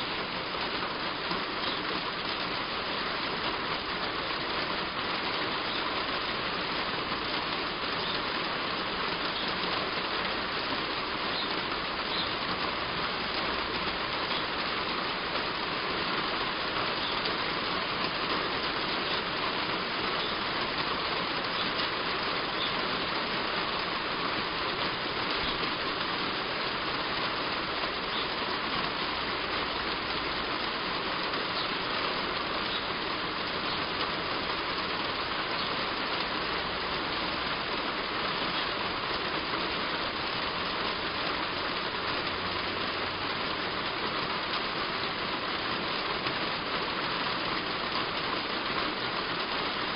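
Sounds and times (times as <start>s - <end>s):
heavy rain on a roof: 0.0s - 49.9s.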